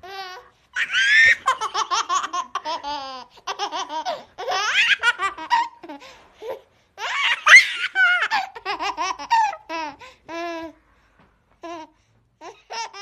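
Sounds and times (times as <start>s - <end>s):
baby laughing: 0.0s - 10.8s, 11.6s - 13.0s.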